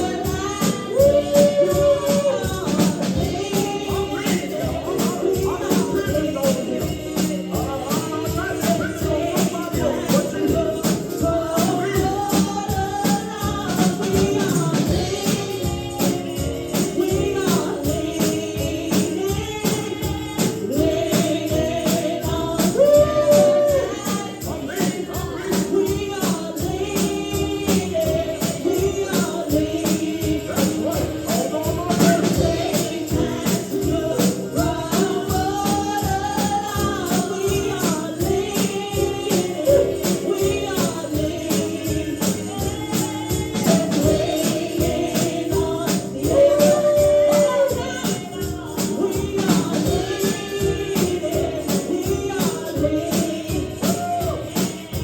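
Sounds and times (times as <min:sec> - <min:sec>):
tambourine beat: 0:00.0 - 0:55.0
voices singing: 0:00.0 - 0:55.0.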